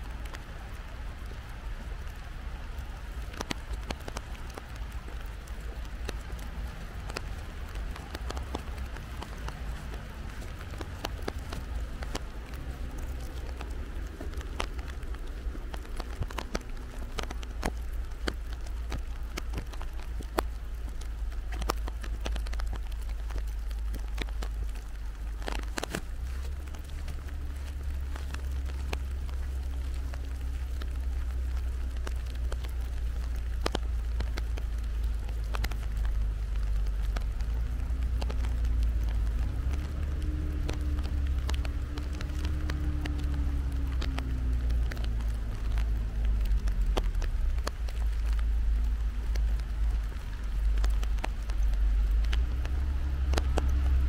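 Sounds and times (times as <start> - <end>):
constant low rumble: 0.0 - 54.0
rain hiss: 0.0 - 54.0
raindrops ticking: 0.0 - 54.0.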